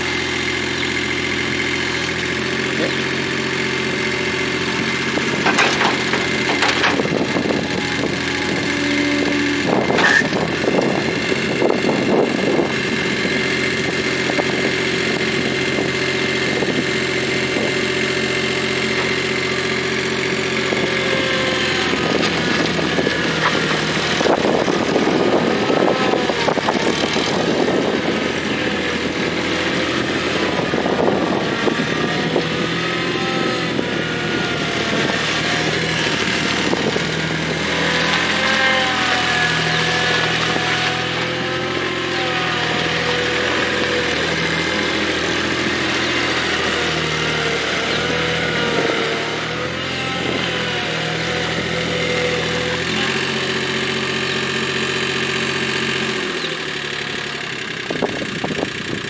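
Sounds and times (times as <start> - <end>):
skid steer loader engine running: 0.0 - 59.0.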